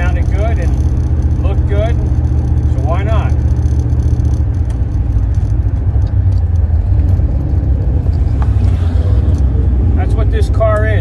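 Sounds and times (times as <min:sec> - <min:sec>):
faint light rattles: 0:00.0 - 0:09.6
car engine droning: 0:00.0 - 0:11.0.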